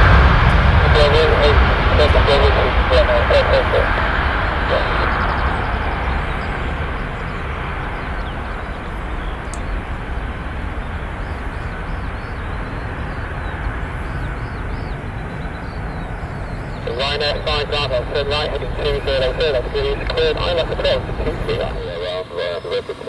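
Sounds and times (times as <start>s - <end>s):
jet engine rushing roar: 0.0s - 23.0s.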